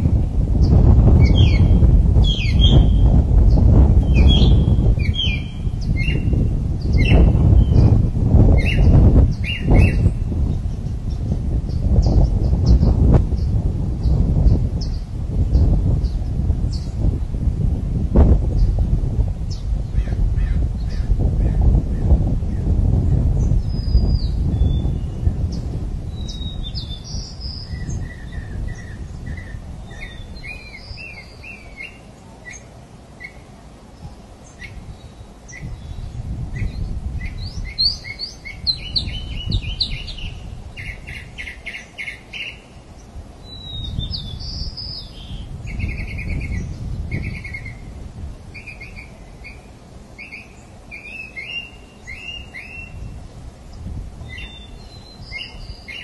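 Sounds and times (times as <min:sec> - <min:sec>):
birds chirping and trilling: 0:00.5 - 0:17.2, 0:19.5 - 0:22.7, 0:23.4 - 0:56.0.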